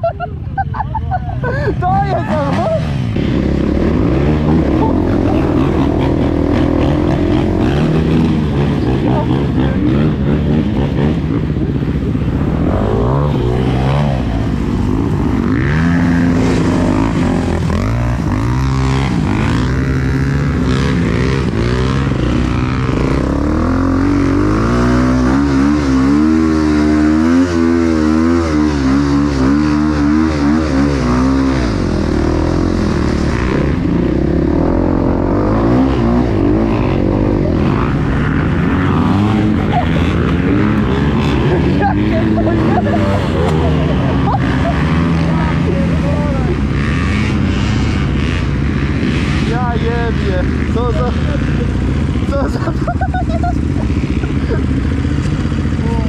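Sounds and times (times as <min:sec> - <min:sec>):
motorcycle engine revving: 0:01.5 - 0:56.0.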